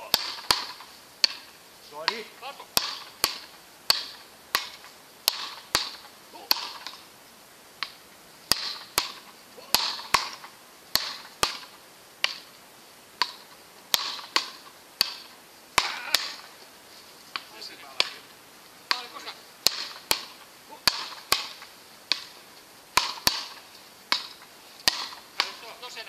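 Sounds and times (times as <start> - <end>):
ball cracking off paddle rackets: 0.0 - 7.1, 7.8 - 12.6, 13.2 - 16.7, 17.3 - 25.9.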